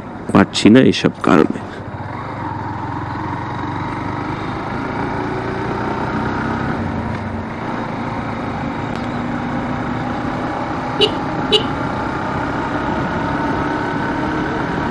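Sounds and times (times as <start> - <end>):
road and wind noise: 0.0 - 14.9
motorcycle engine running: 1.8 - 14.9.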